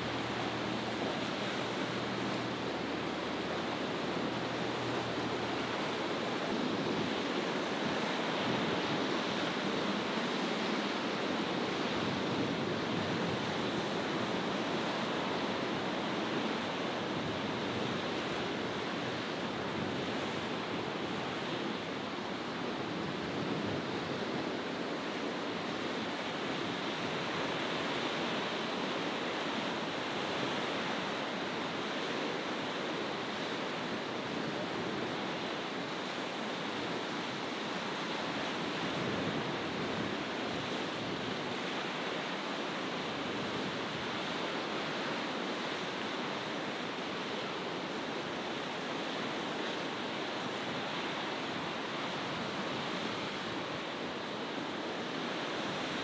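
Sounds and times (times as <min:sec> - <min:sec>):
waves breaking: 0:00.0 - 0:56.0
wind: 0:00.0 - 0:56.0.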